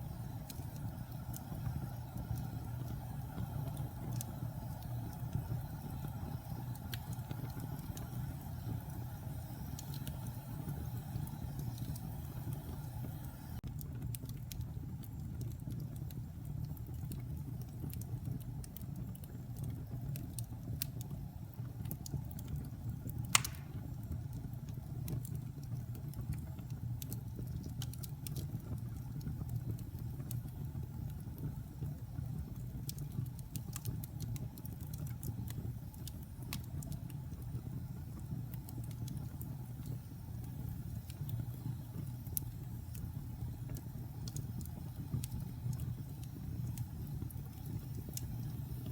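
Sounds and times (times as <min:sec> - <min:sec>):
fire crackling: 0:00.0 - 0:48.9
fire flames rumbling: 0:00.0 - 0:48.9.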